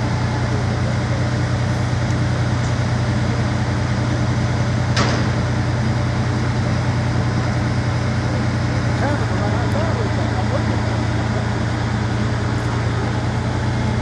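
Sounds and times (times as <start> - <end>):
diesel crane engine droning: 0.0 - 14.0.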